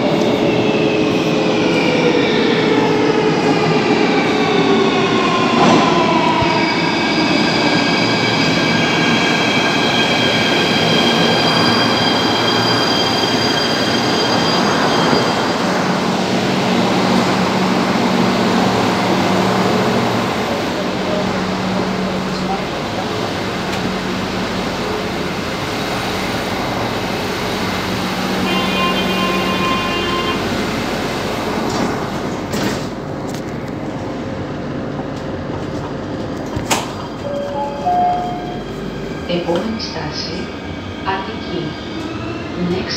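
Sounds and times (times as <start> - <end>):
metro train braking whine: 0.0 - 33.1, 36.0 - 42.9.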